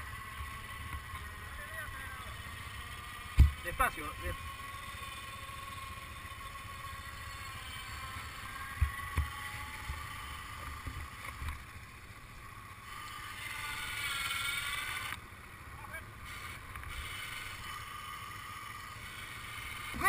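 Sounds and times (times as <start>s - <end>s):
electric winch motor whining: 0.0s - 20.0s.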